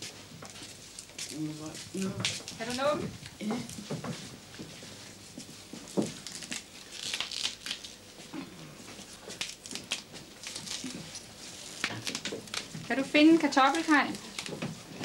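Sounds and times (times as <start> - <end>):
rustling of vegetable leaves: 0.0 - 15.0.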